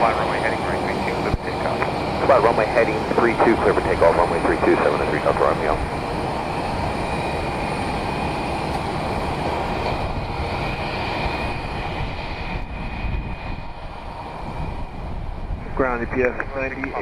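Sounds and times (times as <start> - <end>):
airplane engine whine: 0.0 - 17.0.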